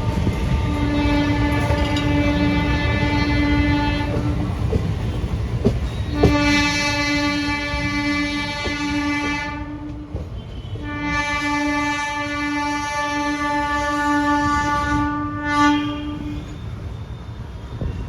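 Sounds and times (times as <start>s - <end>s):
train horn blasts: 0.0s - 4.6s, 6.0s - 16.6s
train running on rails: 0.0s - 18.0s.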